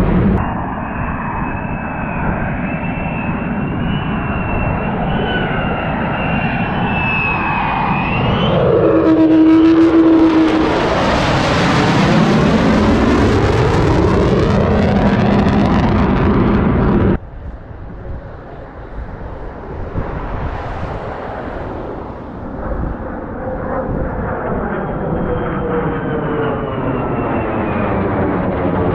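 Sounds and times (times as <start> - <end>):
distant jet rumble: 0.0 - 28.9
fighter jets roaring overhead: 0.0 - 28.9.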